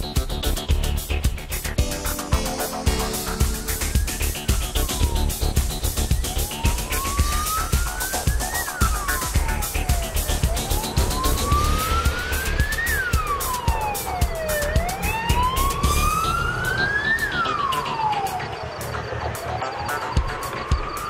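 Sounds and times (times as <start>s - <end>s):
wailing siren: 2.0s - 21.0s
fainter second siren: 2.4s - 21.0s.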